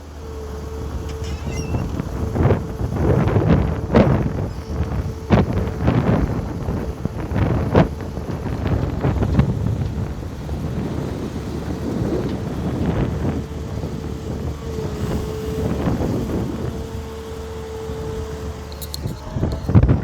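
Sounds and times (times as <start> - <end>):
excavator running: 0.0 - 20.0
wind buffeting microphone: 0.1 - 20.0.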